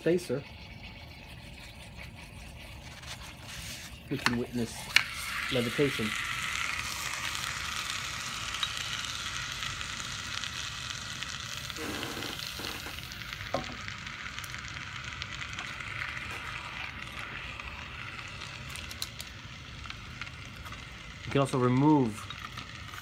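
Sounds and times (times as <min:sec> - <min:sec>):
liquid nitrogen sizzling hiss: 0:00.0 - 0:23.0.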